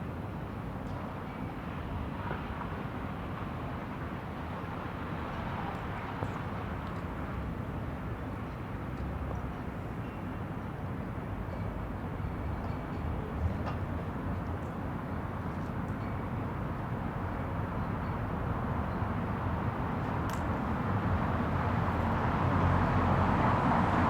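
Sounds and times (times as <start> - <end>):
low rumble of traffic: 1.1 - 24.0.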